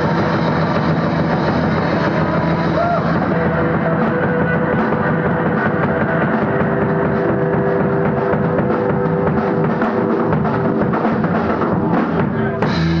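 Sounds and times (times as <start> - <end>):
rock band playing loud: 0.0 - 13.0.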